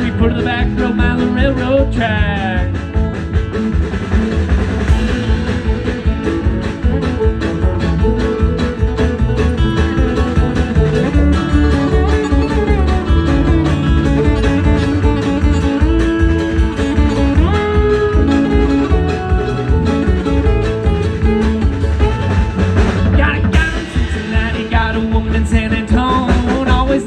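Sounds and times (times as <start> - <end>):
lead guitar melody: 0.0 - 26.9
bass and rhythm guitar: 0.0 - 27.0.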